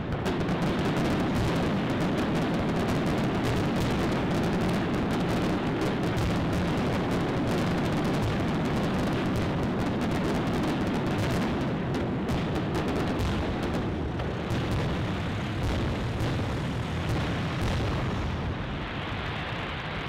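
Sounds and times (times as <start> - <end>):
firework crackling: 0.0 - 20.0.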